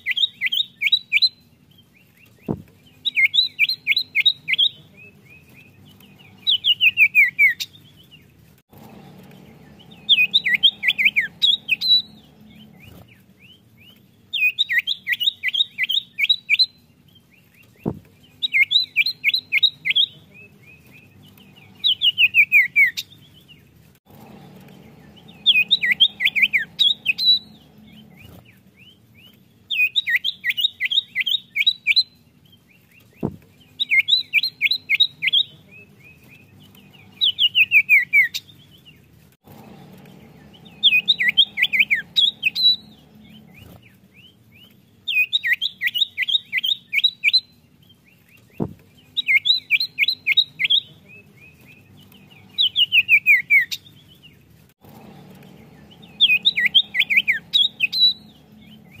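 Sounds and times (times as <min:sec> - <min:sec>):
bird whistled song: 0:00.0 - 0:08.3, 0:08.9 - 0:23.6, 0:24.2 - 0:59.0.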